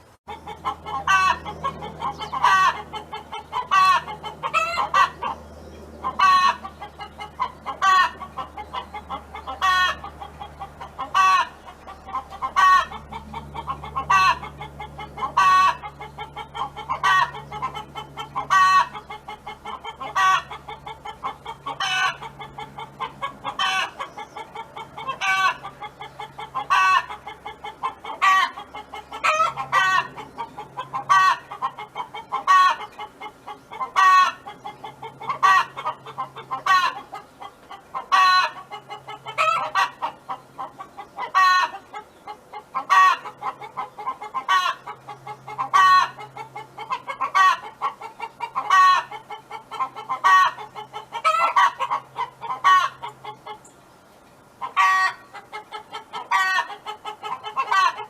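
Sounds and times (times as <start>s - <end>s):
hen clucking: 0.0s - 58.0s.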